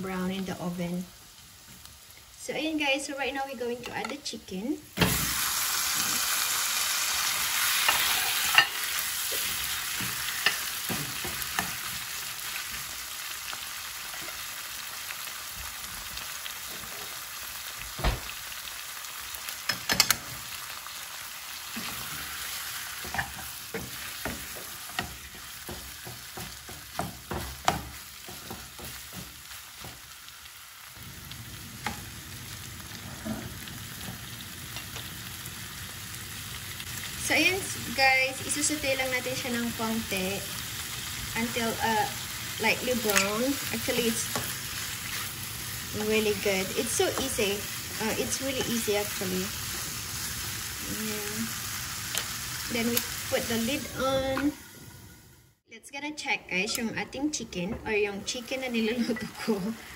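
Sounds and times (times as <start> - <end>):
chicken sizzling in a frying pan: 0.0 - 55.6, 57.9 - 59.9.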